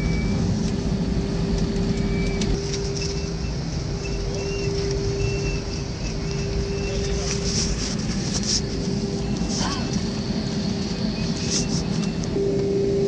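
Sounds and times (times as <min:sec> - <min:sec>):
airliner engine rumble in cabin: 0:00.0 - 0:13.0.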